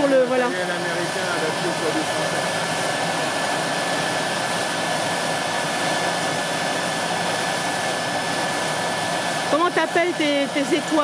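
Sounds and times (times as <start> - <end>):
tractor and seed drill running: 0.0 - 11.0.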